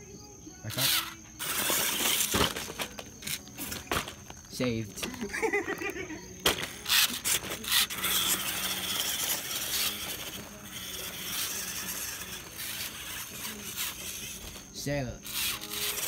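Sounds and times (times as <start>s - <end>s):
toy car motors whirring: 0.6s - 4.5s, 5.1s - 16.0s.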